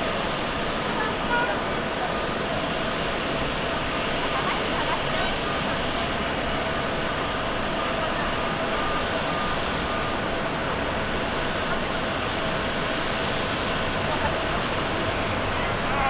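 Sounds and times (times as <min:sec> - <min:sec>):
jet engine noise: 0:00.0 - 0:16.0.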